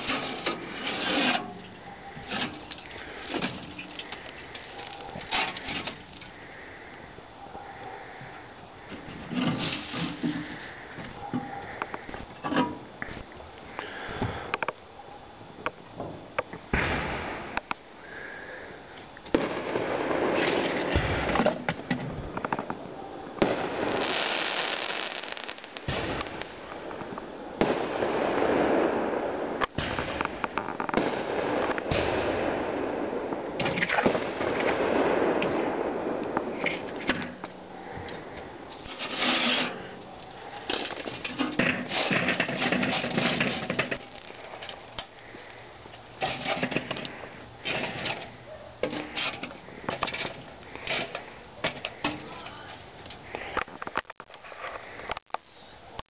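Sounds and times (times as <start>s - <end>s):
fireworks crackling pops: 0.0s - 7.1s, 8.2s - 14.8s, 15.6s - 56.0s
fireworks hissing: 0.0s - 7.3s, 8.0s - 14.8s, 16.6s - 55.1s.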